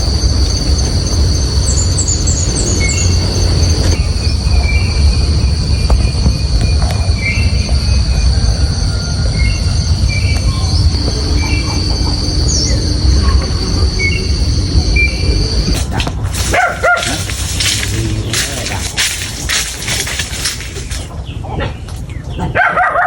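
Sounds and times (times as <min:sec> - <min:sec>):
insect drone: 0:00.0 - 0:21.4
low rumble: 0:00.0 - 0:21.4
bird chirps: 0:00.2 - 0:21.4.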